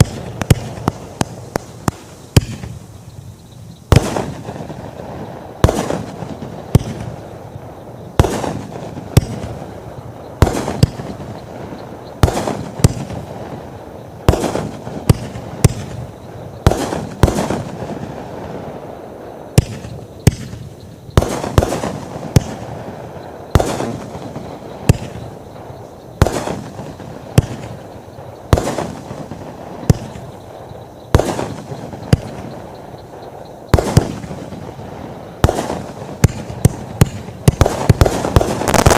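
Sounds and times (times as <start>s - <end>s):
crackling firework bursts: 0.0s - 38.9s
fireworks bangs: 0.0s - 38.9s.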